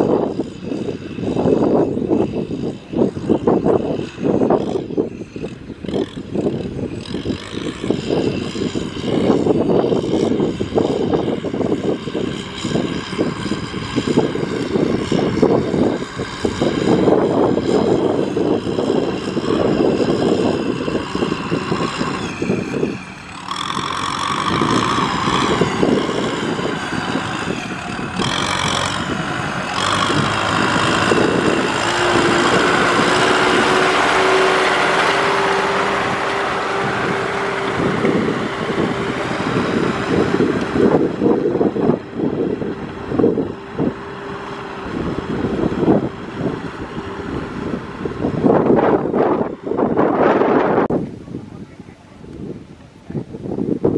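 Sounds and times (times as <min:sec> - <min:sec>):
tractor diesel engine: 0:00.0 - 0:51.4.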